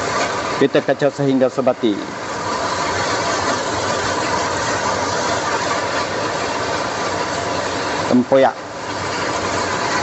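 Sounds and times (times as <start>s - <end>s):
paste sizzling in a wok: 0.0s - 10.0s.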